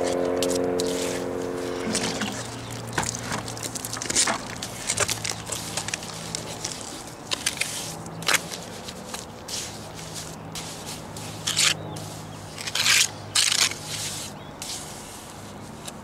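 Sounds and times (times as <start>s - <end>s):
trowel scraping wet cement: 0.0s - 16.0s.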